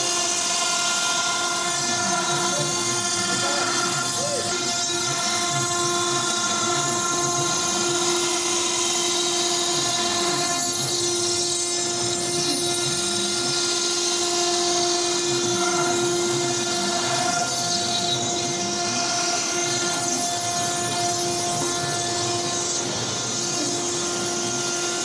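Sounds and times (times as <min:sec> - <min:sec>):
router spindle milling stone: 0:00.0 - 0:25.0.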